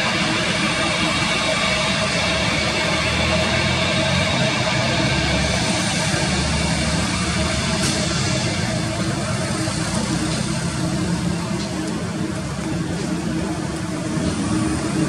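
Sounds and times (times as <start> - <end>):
jet engines idling whine: 0.0 - 15.0.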